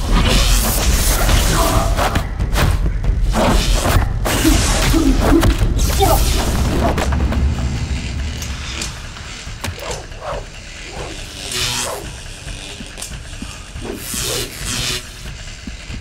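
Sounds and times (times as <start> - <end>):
music score with heavy bass: 0.0 - 16.0.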